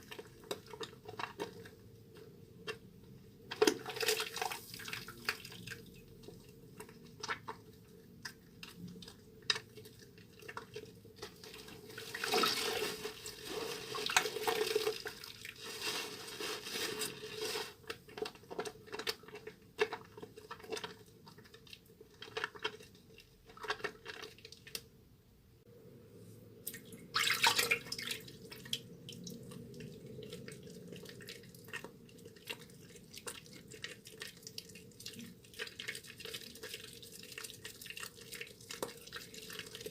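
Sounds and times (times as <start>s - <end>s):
wet soap squishing: 0.0s - 25.0s, 26.7s - 39.9s.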